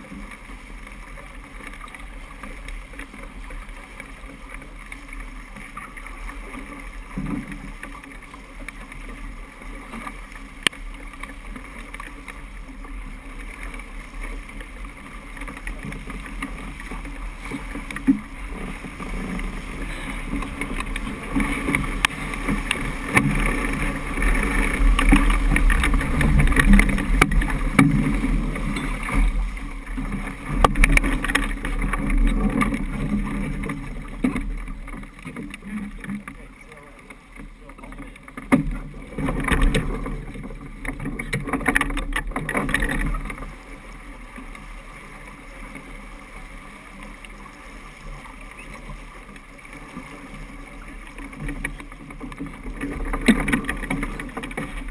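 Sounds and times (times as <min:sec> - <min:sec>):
water rushing along hull: 0:00.0 - 0:54.9.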